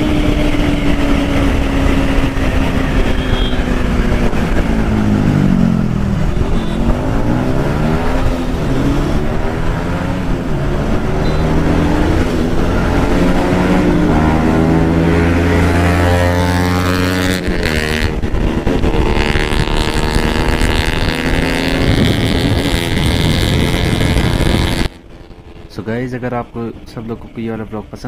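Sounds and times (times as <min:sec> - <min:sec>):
rush of wind: 0:00.0 - 0:25.8
motorcycle engine accelerating: 0:00.0 - 0:28.0.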